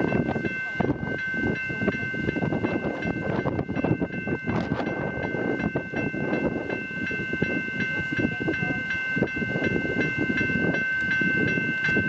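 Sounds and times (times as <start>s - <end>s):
electric train passing: 0.0s - 12.0s
level crossing bell ringing: 0.0s - 12.0s
rattling wheel and rail noise: 0.0s - 12.0s.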